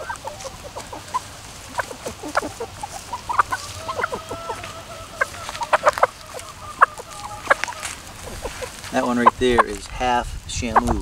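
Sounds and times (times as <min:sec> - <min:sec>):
hen drawn-out call: 0:00.0 - 0:09.8
hens clucking: 0:00.0 - 0:11.0.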